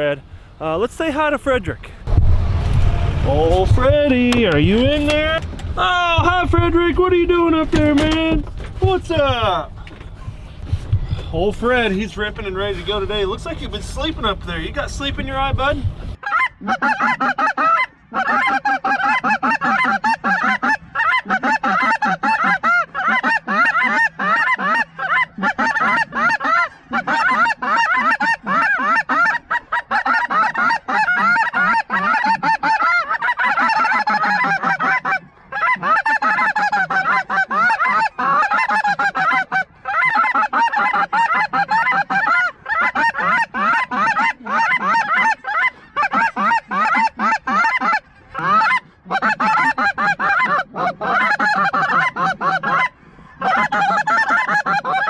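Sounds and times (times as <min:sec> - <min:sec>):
geese honking and yelping: 0:06.2 - 0:55.0.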